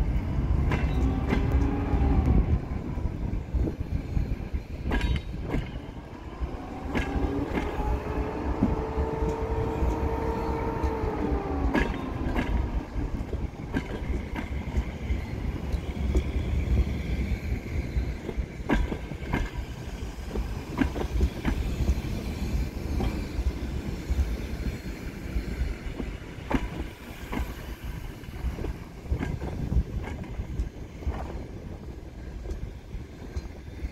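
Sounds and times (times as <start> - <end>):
train coaches rumbling past: 0.0 - 33.9
wheels clicking over rail joints: 0.0 - 33.9.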